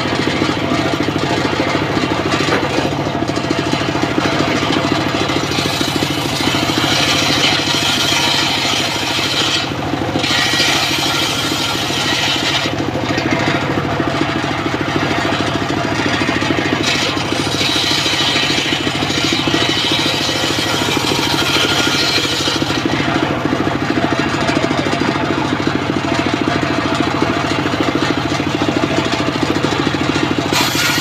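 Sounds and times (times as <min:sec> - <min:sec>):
circular saw cutting boards: 0:00.0 - 0:31.0.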